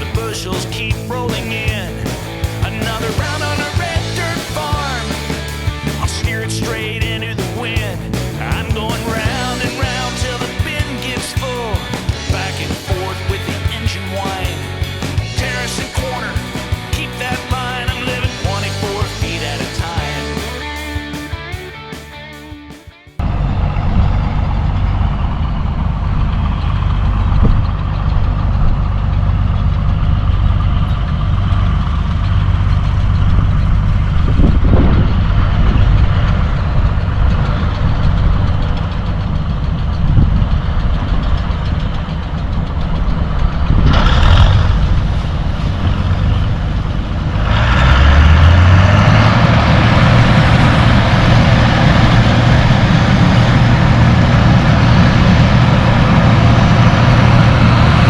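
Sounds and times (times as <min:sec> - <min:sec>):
combine harvester engine drone: 0:00.0 - 0:22.0, 0:23.2 - 0:58.0
rushing machine noise: 0:00.0 - 0:22.5, 0:23.2 - 0:58.0.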